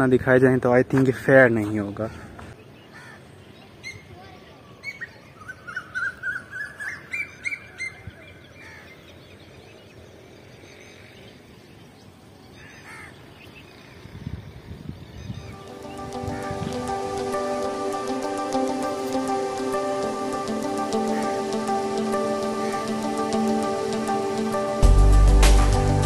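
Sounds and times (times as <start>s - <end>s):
bird chirping: 2.4s - 24.8s.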